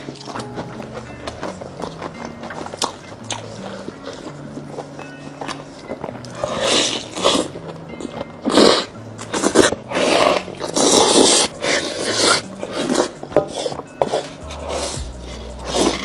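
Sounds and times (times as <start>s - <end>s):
noodles slurped and chewed: 0.0s - 16.0s.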